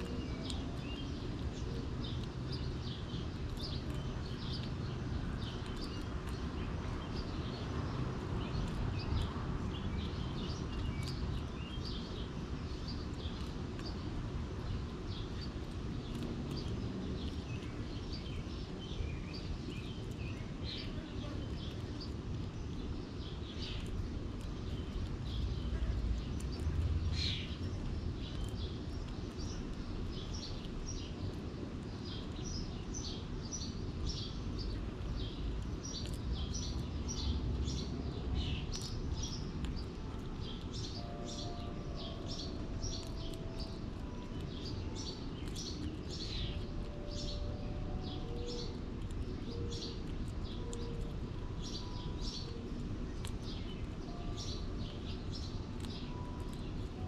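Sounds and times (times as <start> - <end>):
low background rumble: 0.0 - 57.0
small birds chirping: 0.0 - 57.0.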